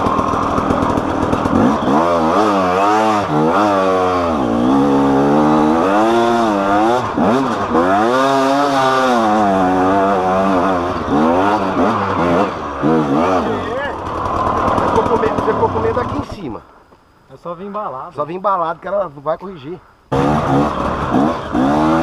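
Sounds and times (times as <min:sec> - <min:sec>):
motorcycle engine revving: 0:00.0 - 0:16.3, 0:20.1 - 0:22.0.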